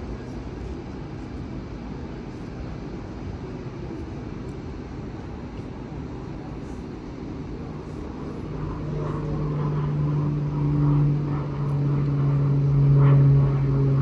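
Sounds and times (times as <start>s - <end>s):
tram electric hum: 0.0s - 14.0s.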